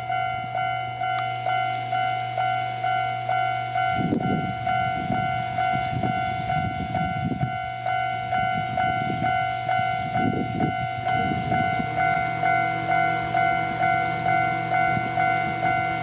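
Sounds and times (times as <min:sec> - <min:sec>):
level crossing alarm bell: 0:00.0 - 0:16.0.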